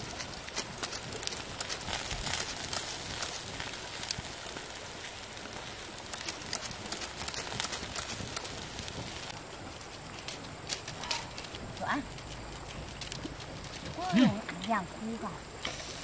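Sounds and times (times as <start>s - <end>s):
fire crackling and popping: 0.0s - 16.0s
fish sizzling over fire: 0.0s - 16.0s.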